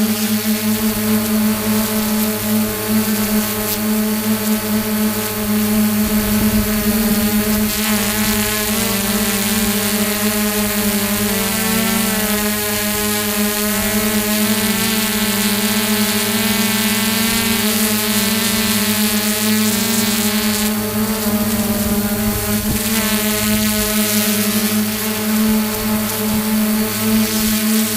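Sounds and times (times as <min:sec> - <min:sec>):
drone propellers buzzing whine: 0:00.0 - 0:27.9.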